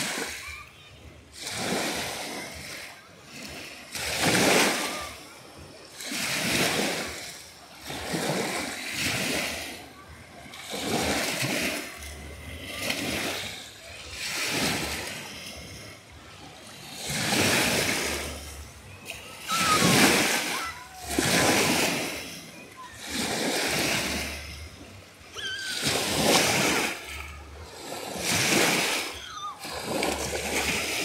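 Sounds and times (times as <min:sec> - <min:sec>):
small waves washing on beach: 0:00.0 - 0:31.0.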